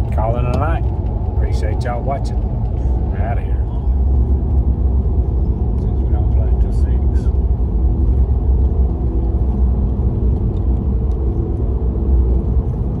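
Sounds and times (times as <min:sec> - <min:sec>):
vehicle cabin engine and road rumble: 0:00.0 - 0:13.0.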